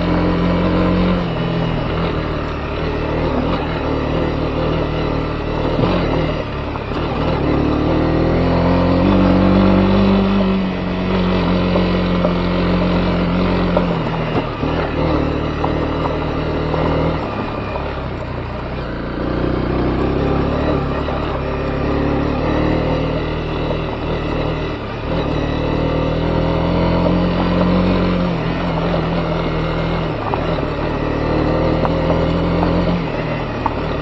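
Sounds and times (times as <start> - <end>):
motorcycle engine revving: 0.0 - 34.0
tyres on gravel road: 0.0 - 34.0.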